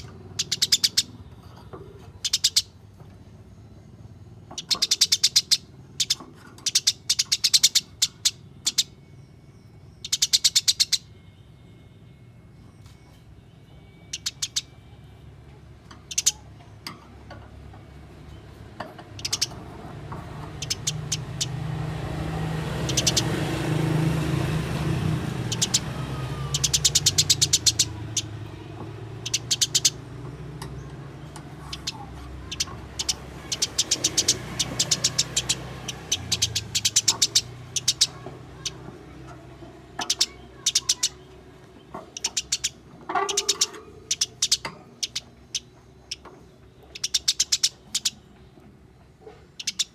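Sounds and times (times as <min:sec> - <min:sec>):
sparrows chattering: 0:00.0 - 0:49.9.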